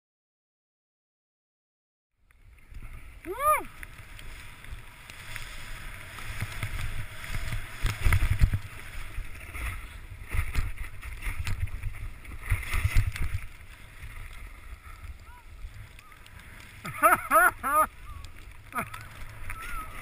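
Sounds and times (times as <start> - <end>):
skis sliding through snow: 2.4 - 20.0
wind buffeting microphone: 2.5 - 20.0.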